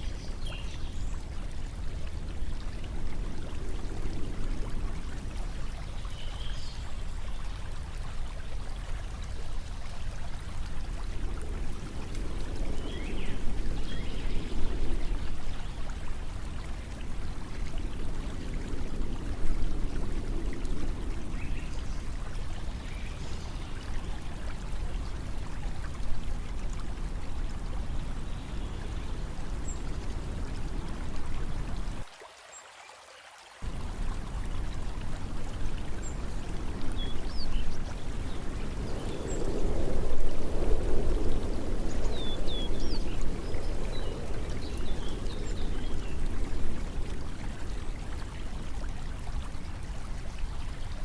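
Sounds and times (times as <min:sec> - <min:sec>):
rushing water: 0:00.0 - 0:51.0.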